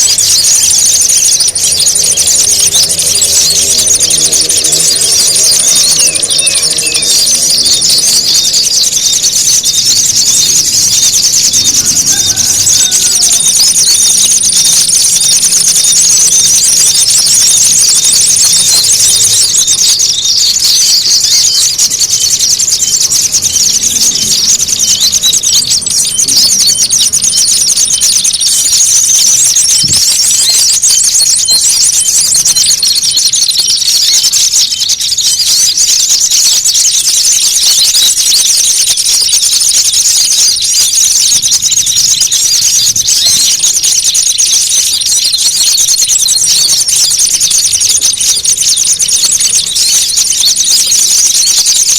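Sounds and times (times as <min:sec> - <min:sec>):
small birds chirping: 0:00.0 - 0:51.9
thin steady high tone: 0:00.0 - 0:51.9.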